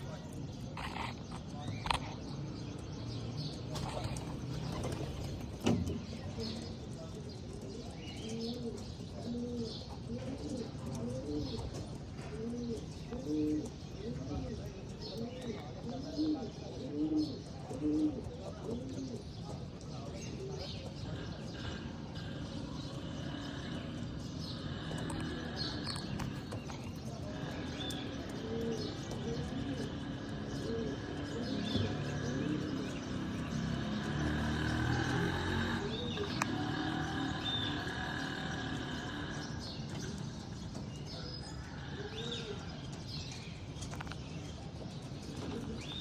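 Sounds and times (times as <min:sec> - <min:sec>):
pigeons chirping: 0:00.0 - 0:46.0.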